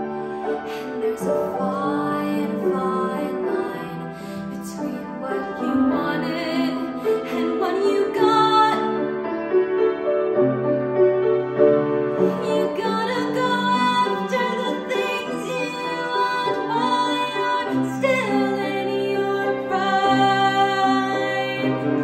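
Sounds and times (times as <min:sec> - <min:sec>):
piano accompaniment: 0:00.0 - 0:22.0
woman singing a ballad: 0:00.6 - 0:09.1, 0:12.2 - 0:22.0.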